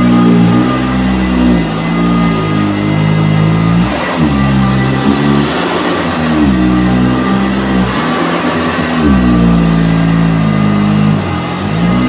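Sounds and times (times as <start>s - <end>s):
upright vacuum cleaner on carpet: 0.0s - 12.0s.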